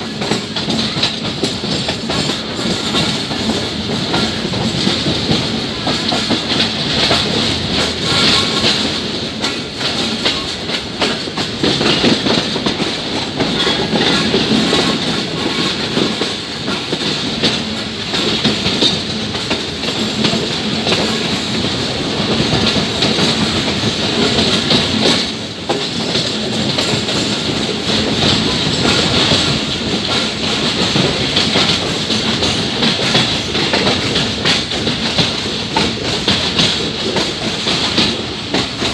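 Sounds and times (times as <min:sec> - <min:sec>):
clicking over rail joints: 0:00.0 - 0:38.9
train wheels on rails: 0:00.0 - 0:38.9.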